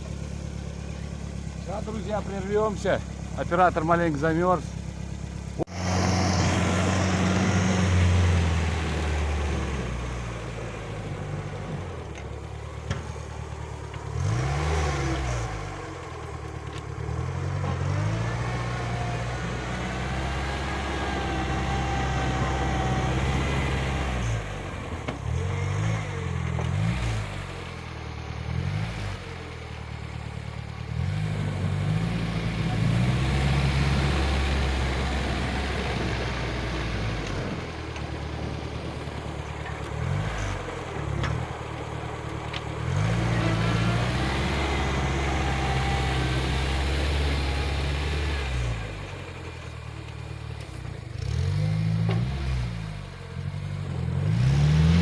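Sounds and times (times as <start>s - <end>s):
small tractor engine revving: 0.0s - 55.0s.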